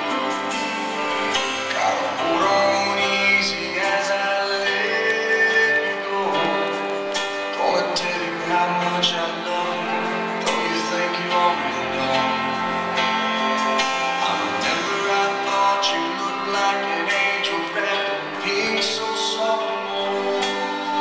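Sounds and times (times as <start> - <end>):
song with singing and guitar: 0.0 - 21.0.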